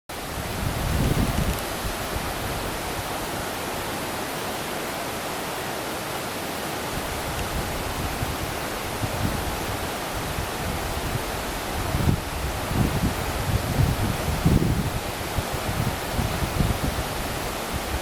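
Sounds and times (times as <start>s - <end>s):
waterfall roaring: 0.1s - 18.0s.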